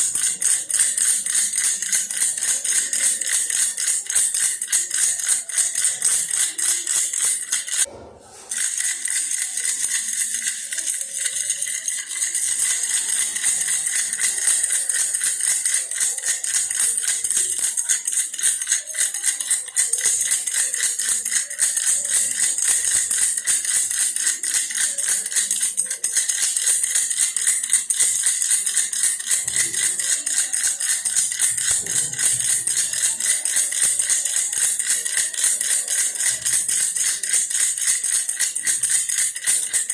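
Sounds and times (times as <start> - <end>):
toy rattle shaking: 0.0 - 39.9.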